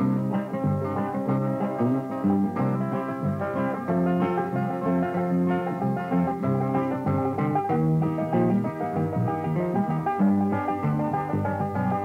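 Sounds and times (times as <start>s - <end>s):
country instrumental with plucked strings: 0.0s - 12.0s.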